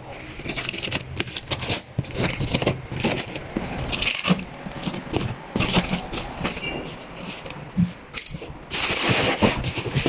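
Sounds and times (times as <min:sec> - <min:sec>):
packaging crackling and rustling: 0:00.0 - 0:10.0.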